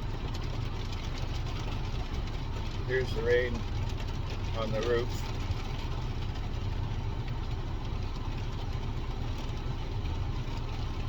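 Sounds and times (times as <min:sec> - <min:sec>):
rain on car roof: 0:00.0 - 0:11.0.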